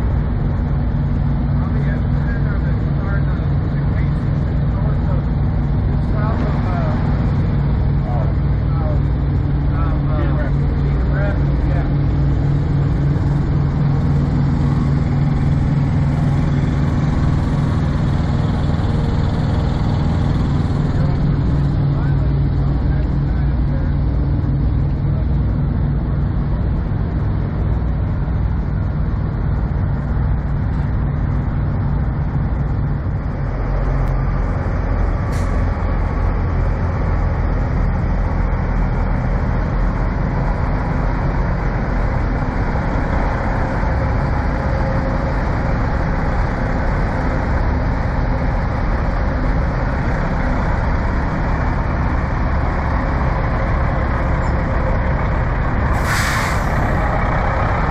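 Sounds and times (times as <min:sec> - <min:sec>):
diesel truck engines idling: 0:00.0 - 0:57.9.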